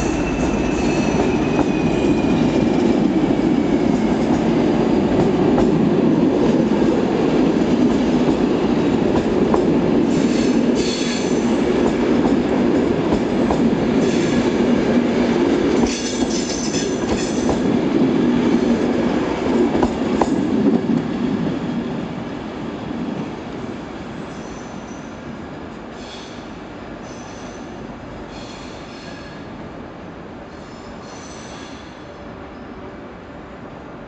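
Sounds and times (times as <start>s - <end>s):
train rail rumble: 0.0s - 34.0s.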